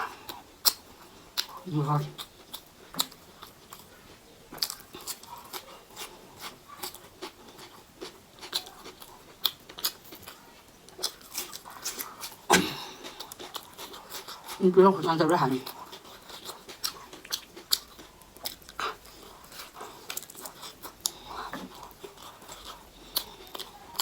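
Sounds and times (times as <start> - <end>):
chewing and mouth clicks: 0.0 - 24.0.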